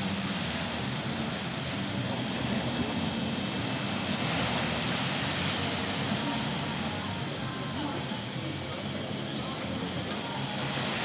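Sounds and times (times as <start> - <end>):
rough sea surf breaking: 0.0 - 11.0.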